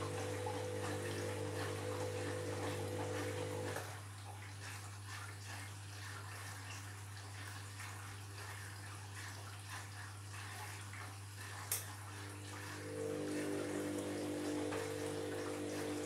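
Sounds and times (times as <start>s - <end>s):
washing machine sloshing: 0.0s - 16.0s.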